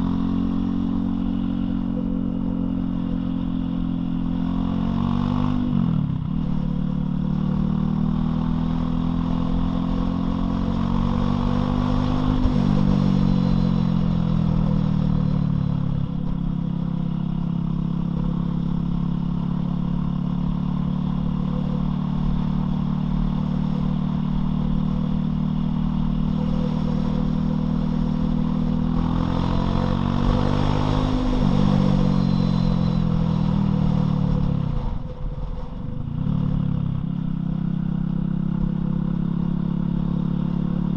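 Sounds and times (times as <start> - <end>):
motorcycle engine revving and shifting: 0.0 - 40.9.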